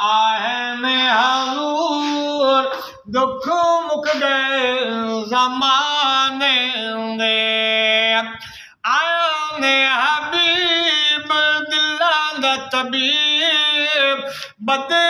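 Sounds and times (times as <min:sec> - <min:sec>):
old man singing unaccompanied: 0:00.0 - 0:15.0.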